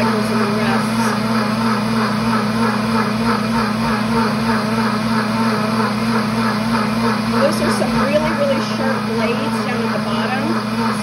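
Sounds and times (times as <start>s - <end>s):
blender motor churning: 0.0s - 11.0s.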